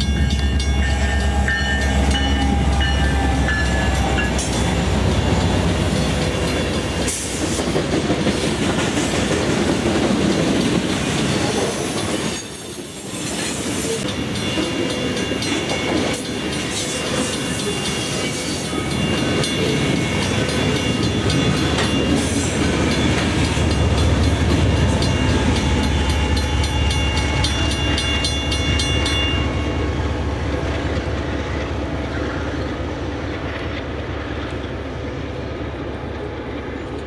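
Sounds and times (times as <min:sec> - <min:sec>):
locomotive engine rumble: 0:00.0 - 0:11.7, 0:18.7 - 0:37.0
train wheels clicking over rail joints: 0:00.0 - 0:34.8.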